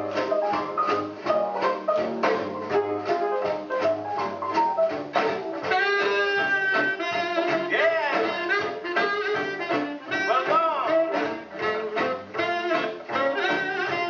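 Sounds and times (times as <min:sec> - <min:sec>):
swing jazz with saxophones and brass: 0:00.0 - 0:14.0.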